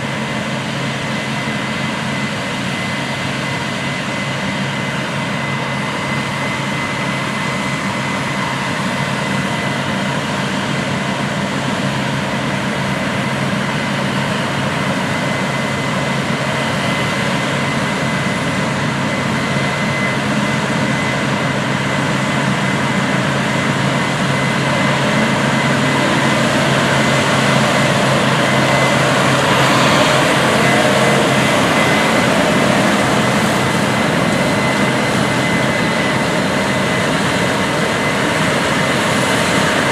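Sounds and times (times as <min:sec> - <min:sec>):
diesel engine drone: 0:00.0 - 0:39.9
high-pitched machine whine: 0:00.0 - 0:39.9.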